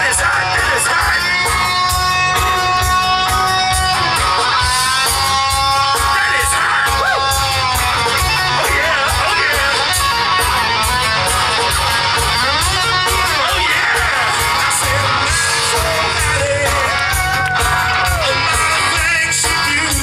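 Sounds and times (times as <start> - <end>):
bass guitar: 0.0 - 20.0
guitar lead with string bends: 0.0 - 20.0
steady drum beat: 0.0 - 20.0.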